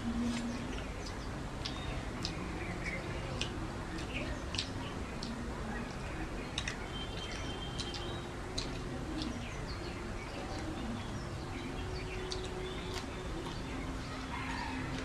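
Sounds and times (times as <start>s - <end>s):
birds calling: 0.0s - 15.0s
mouth and finger sounds: 0.0s - 15.0s
wet rice mixed and chewed: 0.0s - 15.0s.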